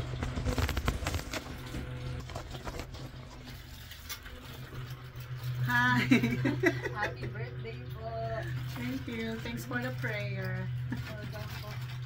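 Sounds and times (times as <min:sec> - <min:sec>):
aluminium foil crinkling: 0:00.0 - 0:06.9, 0:08.2 - 0:12.0
low steady hum: 0:00.0 - 0:12.0.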